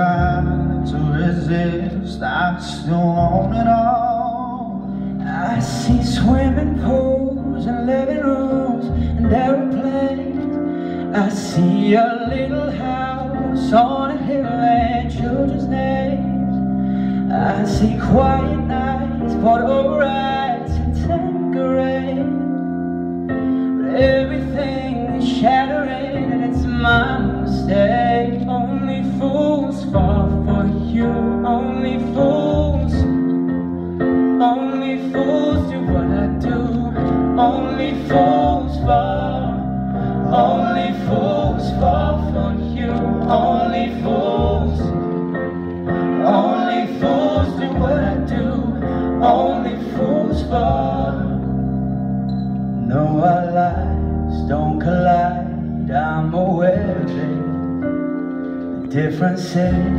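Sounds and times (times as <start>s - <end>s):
male vocal trio singing: 0.0s - 22.4s, 23.7s - 33.4s, 34.2s - 51.8s, 58.9s - 59.9s
instrumental backing: 0.0s - 59.9s.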